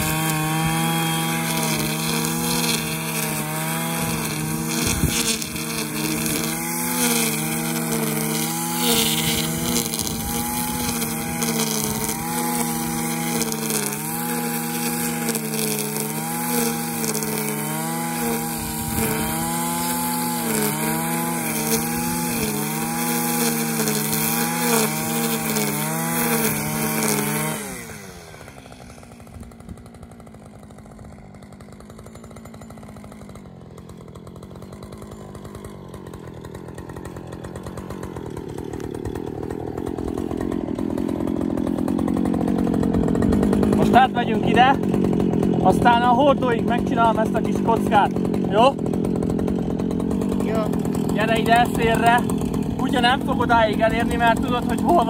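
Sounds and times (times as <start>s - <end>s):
brush cutter engine at full throttle: 0.0s - 55.0s
trimmer line cutting grass: 0.0s - 55.0s.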